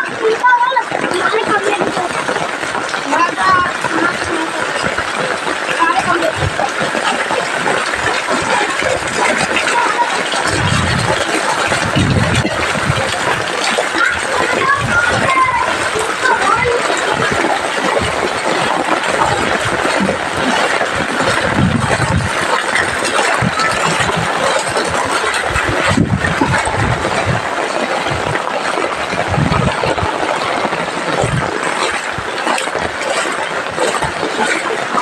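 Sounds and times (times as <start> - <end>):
heavy rain pouring: 0.0 - 35.0
low rumbles: 0.9 - 35.0.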